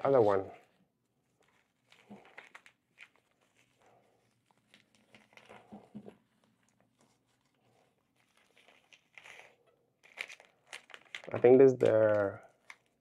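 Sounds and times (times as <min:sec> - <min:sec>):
cloth pouch rustling and crinkling: 0:00.0 - 0:13.0.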